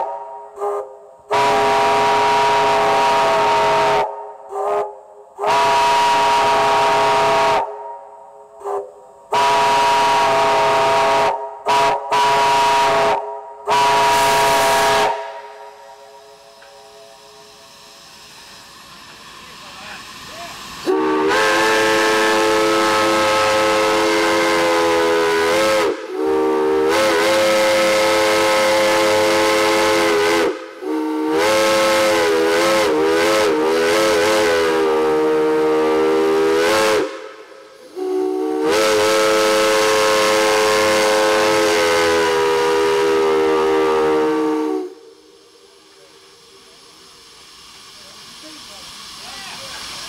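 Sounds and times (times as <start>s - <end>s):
chime steam whistle blasts: 0.0s - 18.8s, 19.8s - 48.0s
steam hiss: 0.0s - 50.0s.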